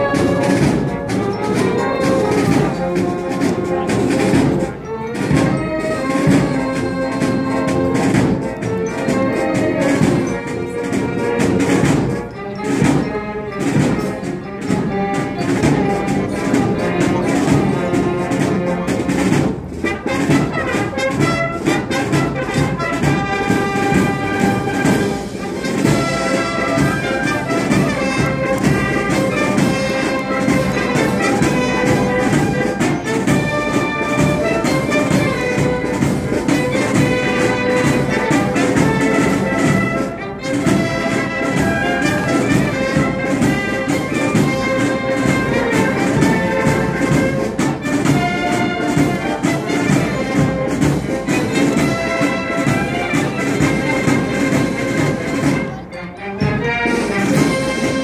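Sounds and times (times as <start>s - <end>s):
steady drum beat: 0.0s - 55.8s, 56.5s - 58.0s
trumpets and trombones: 0.0s - 58.0s.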